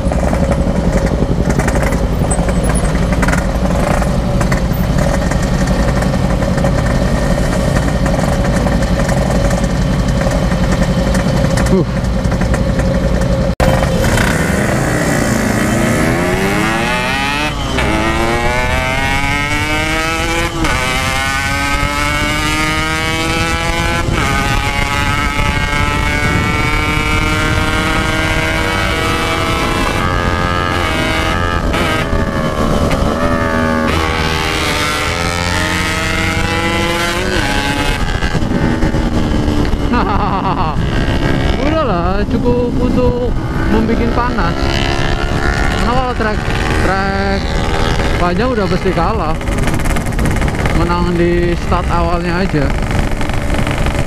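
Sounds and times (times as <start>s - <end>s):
motorcycle engine accelerating: 0.0s - 54.0s
wind on microphone: 0.0s - 54.0s.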